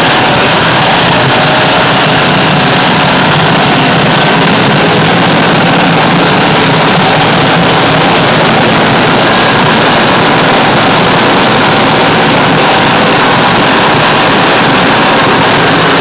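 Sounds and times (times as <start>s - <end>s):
large diesel engine running: 0.0s - 16.0s
radiator fan turning: 0.0s - 16.0s.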